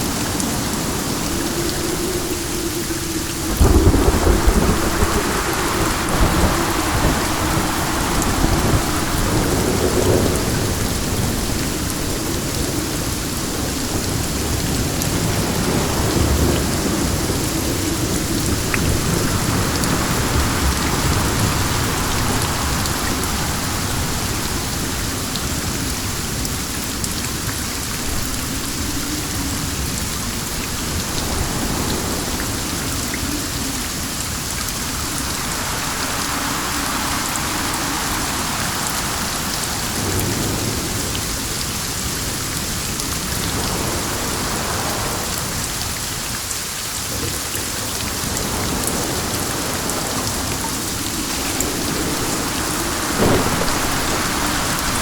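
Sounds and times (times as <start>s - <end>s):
rain falling: 0.0s - 55.0s
wind: 0.0s - 55.0s.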